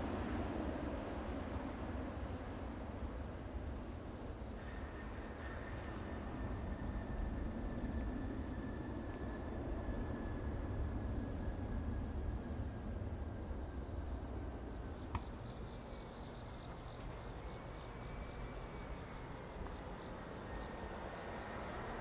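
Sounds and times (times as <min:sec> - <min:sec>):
distant jet engines rumbling: 0:03.7 - 0:22.0.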